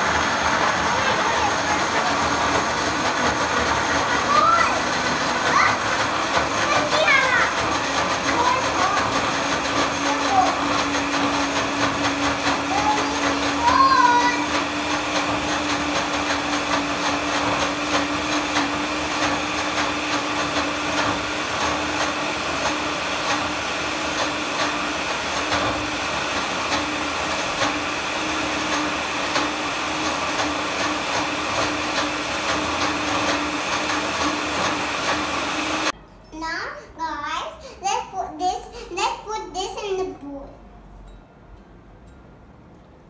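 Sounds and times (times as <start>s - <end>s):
electric blender running: 0.0s - 36.0s.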